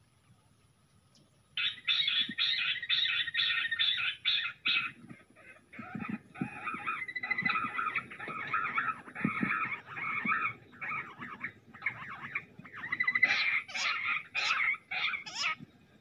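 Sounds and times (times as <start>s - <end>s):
quail calls through a speaker: 1.6s - 15.6s.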